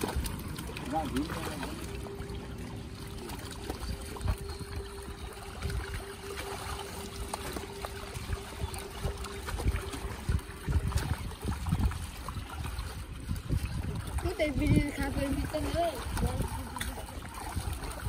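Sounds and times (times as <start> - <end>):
fish thrashing and water splashing: 0.0 - 18.0
steady low hum: 0.0 - 18.0.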